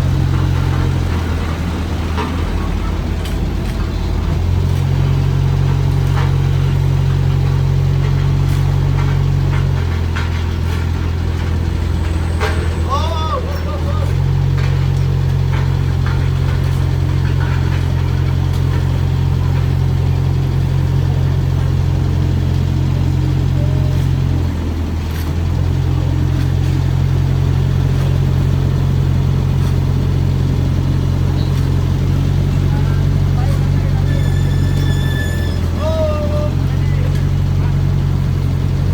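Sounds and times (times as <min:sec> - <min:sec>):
engine running with deep hum: 0:00.0 - 0:38.9.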